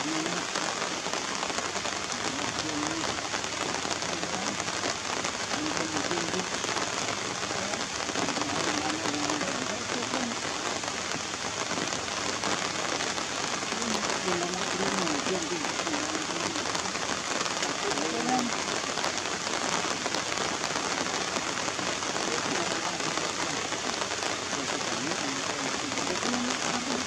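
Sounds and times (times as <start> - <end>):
steady rain on wet surfaces: 0.0 - 27.0.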